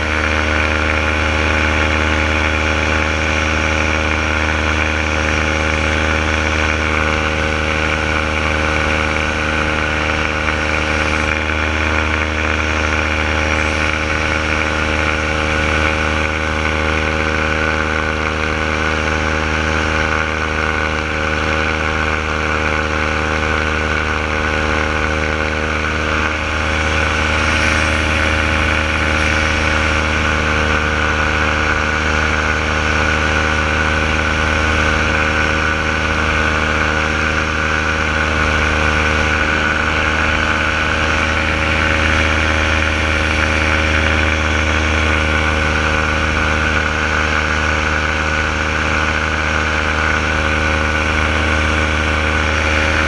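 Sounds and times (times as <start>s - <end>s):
paramotor engine drone: 0.0s - 53.0s.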